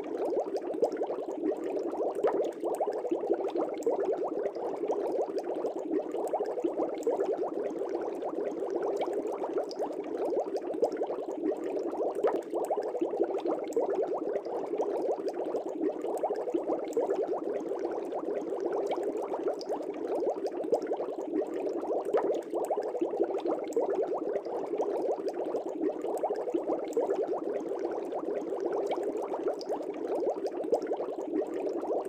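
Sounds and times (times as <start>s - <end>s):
air bubbles burbling in fish tank: 0.0s - 32.0s.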